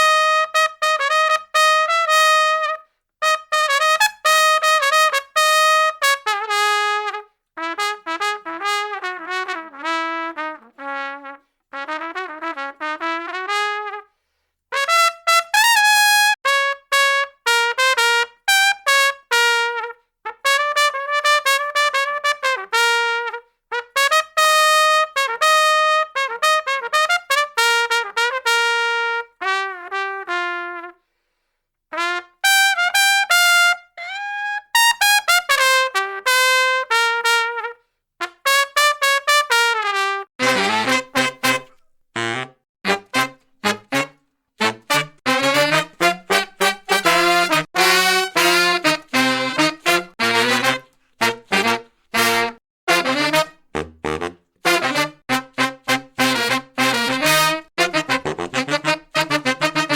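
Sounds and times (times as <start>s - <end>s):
brass horn playing melody: 0.0s - 14.1s, 14.7s - 31.0s, 31.9s - 59.9s.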